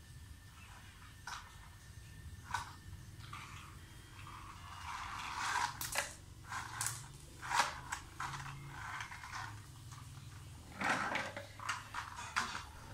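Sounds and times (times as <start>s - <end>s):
plastic toy vehicles on tiled floor: 0.0s - 12.9s.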